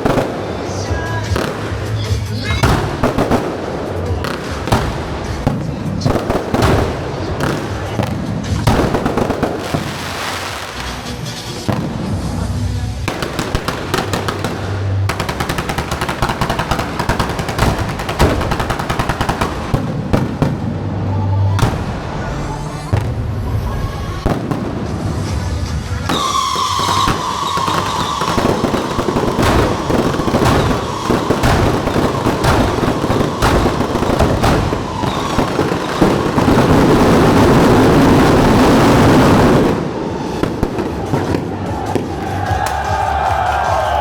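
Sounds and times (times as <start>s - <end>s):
fireworks crackling and bangs: 0.0s - 44.0s.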